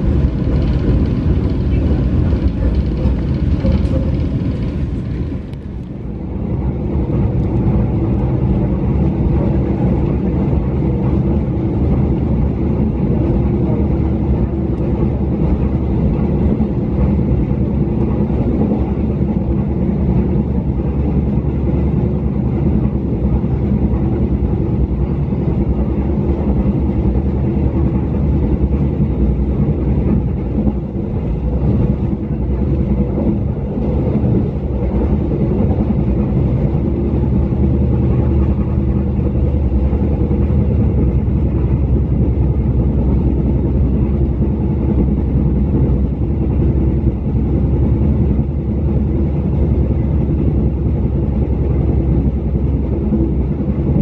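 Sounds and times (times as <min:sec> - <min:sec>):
low hum: 0:00.0 - 0:54.0
train wheels rumbling on rails: 0:00.0 - 0:54.0.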